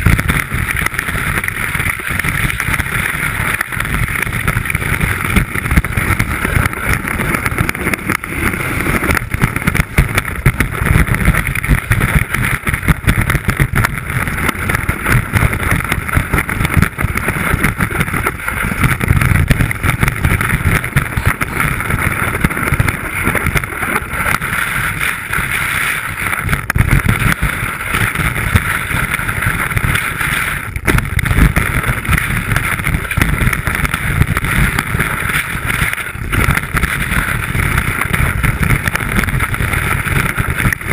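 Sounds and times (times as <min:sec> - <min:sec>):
wind and snow rushing: 0:00.0 - 0:40.9.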